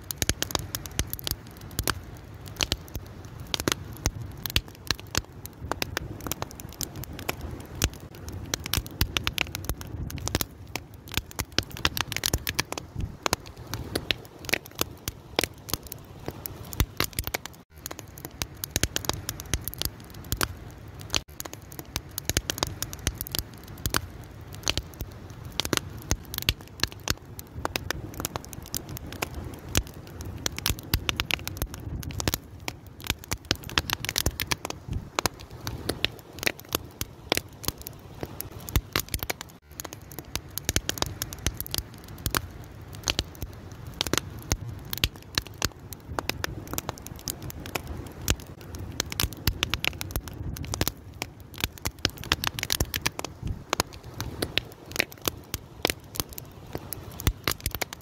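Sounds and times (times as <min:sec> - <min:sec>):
low rumble of burning: 0:00.0 - 0:58.0
wood fire pops and snaps: 0:00.0 - 0:58.0.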